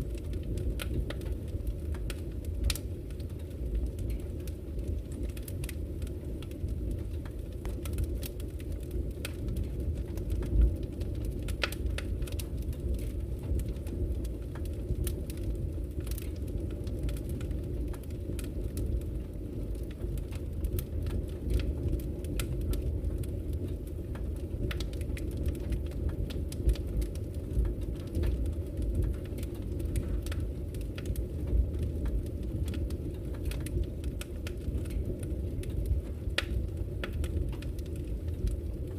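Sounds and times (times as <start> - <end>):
fire flames rumbling: 0.0 - 38.9
logs crackling and popping: 0.0 - 38.9.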